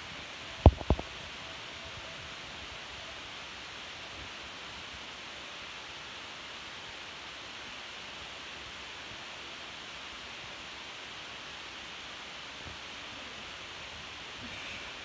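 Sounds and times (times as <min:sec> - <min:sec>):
room noise hiss: 0:00.0 - 0:15.0.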